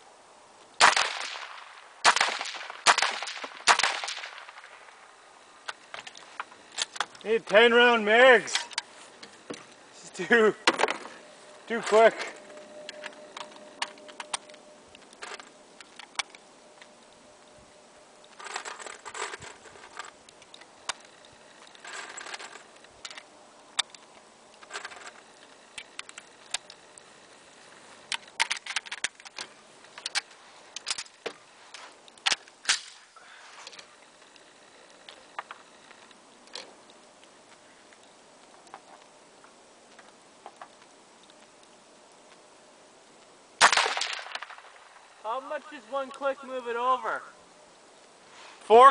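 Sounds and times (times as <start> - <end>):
rustling: 0.6 - 46.8, 47.4 - 48.9.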